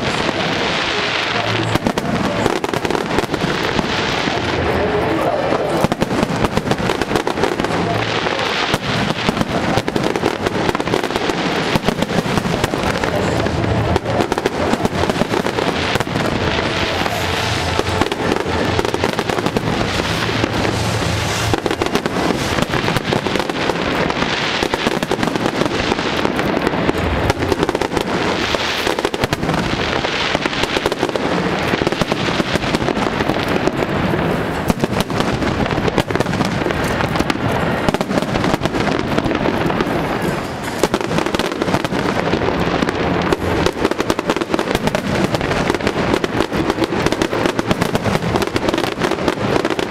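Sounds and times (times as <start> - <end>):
fireworks bursting and crackling: 0.0 - 49.9.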